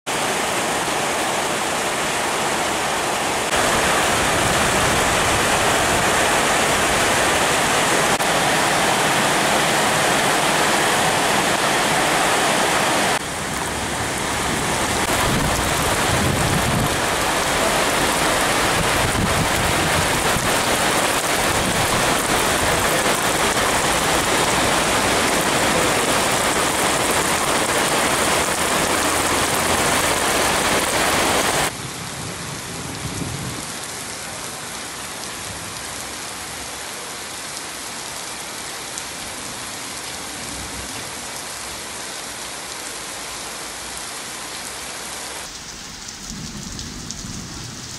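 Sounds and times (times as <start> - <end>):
heavy rain: 0.1 - 47.9.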